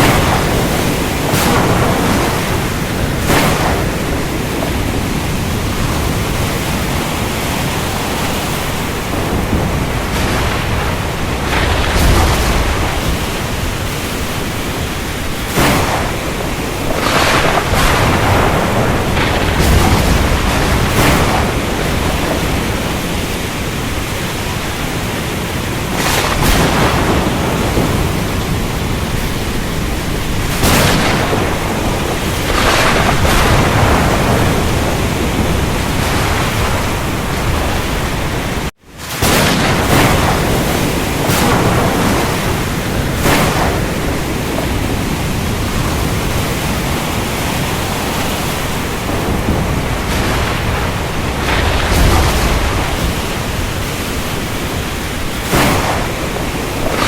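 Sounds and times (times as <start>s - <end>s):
rain: 0.0s - 57.0s
waves breaking: 0.0s - 57.0s.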